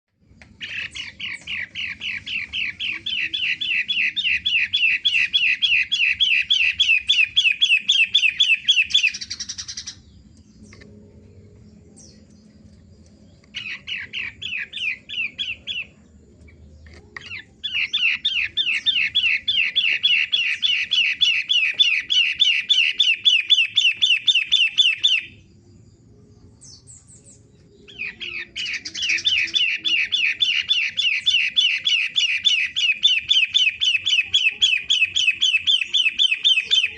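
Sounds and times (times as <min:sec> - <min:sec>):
shrike chattering song: 0:00.4 - 0:25.5, 0:26.7 - 0:36.9.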